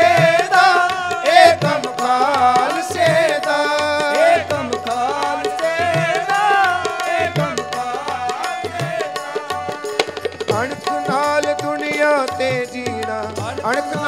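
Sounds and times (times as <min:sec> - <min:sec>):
harmonium melody: 0:00.0 - 0:14.0
tabla strokes: 0:00.0 - 0:14.0.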